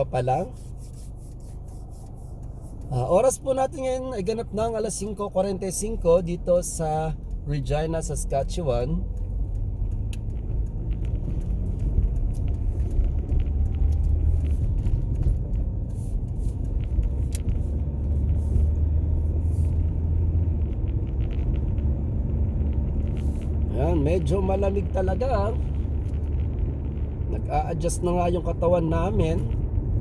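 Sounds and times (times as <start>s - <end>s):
car driving on road: 0.0s - 30.0s
faint ticks: 0.8s - 26.8s.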